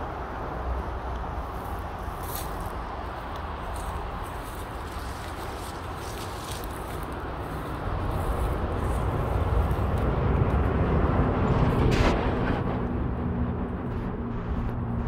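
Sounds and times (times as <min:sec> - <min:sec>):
motor vehicle engine rumble: 0:00.0 - 0:15.0.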